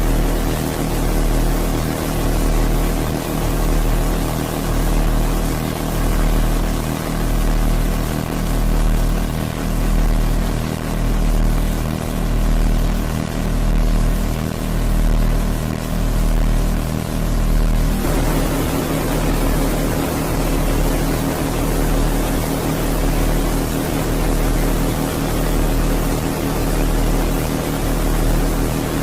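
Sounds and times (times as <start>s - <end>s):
wobbling droning hum: 0.0s - 29.0s.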